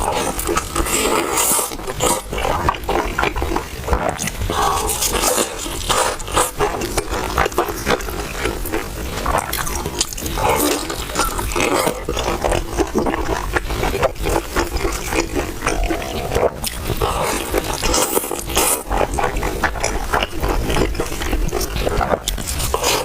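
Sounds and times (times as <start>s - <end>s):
crunching and chewing food: 0.0s - 23.0s.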